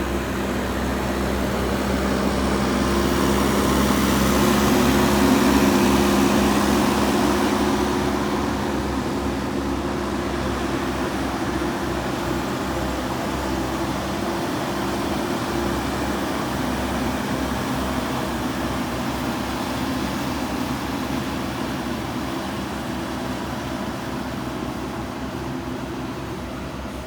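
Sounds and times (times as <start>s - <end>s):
diesel engine throbbing: 0.0s - 27.0s.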